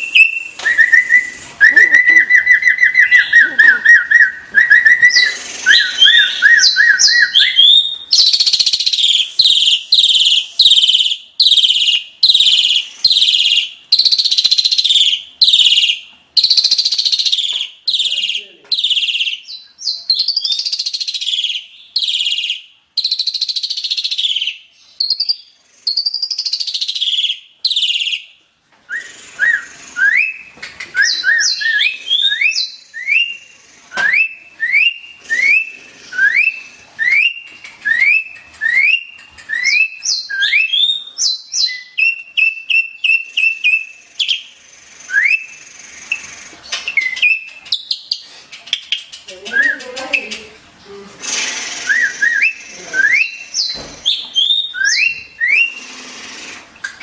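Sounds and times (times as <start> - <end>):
starling singing: 0.0 - 28.3, 28.9 - 48.2, 48.8 - 57.0.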